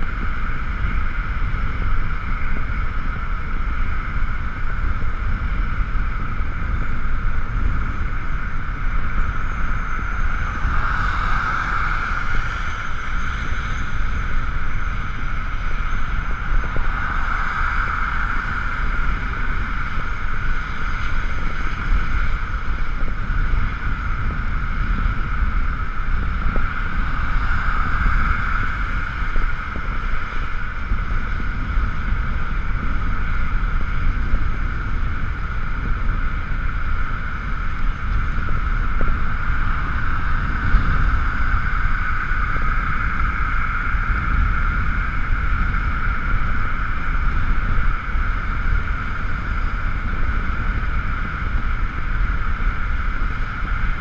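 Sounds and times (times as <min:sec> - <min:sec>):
electric motorcycle whir: 0:00.0 - 0:54.0
wind buffeting microphone: 0:00.0 - 0:54.0.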